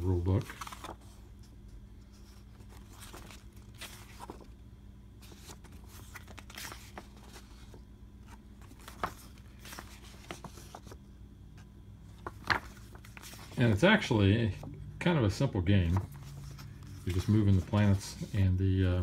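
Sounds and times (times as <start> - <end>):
paper pages rustling: 0.0 - 4.6, 5.2 - 14.7, 15.3 - 19.0.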